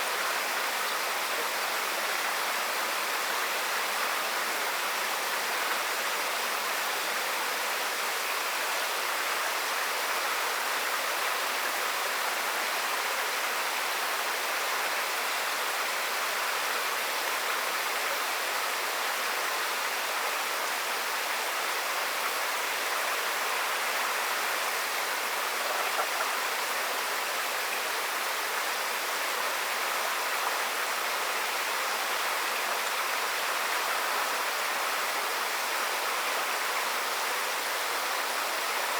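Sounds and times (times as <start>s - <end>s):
water rushing in a channel: 0.0s - 38.9s.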